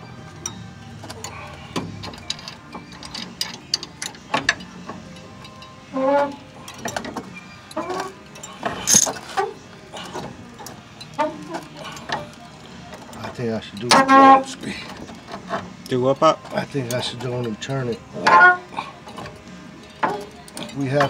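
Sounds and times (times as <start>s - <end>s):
pipe wrench clicking and scraping metal: 0.3s - 21.0s.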